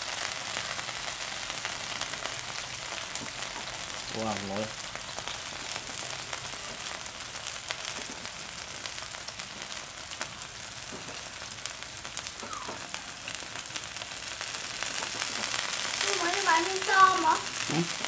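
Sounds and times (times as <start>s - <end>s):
meat and vegetables sizzling on grill: 0.0s - 18.0s.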